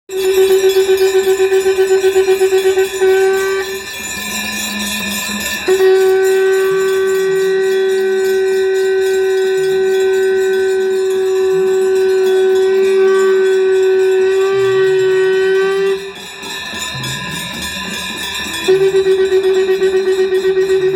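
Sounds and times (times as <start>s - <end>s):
bells jingling: 0.1s - 20.9s
conch shell blown: 0.1s - 20.9s.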